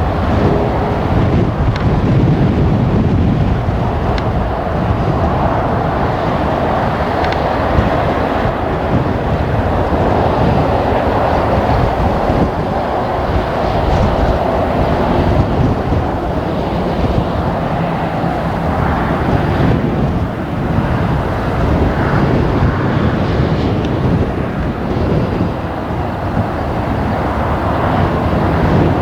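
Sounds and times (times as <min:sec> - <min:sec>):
jet engine noise: 0:00.0 - 0:29.0
wind rumbling on microphone: 0:00.0 - 0:29.0.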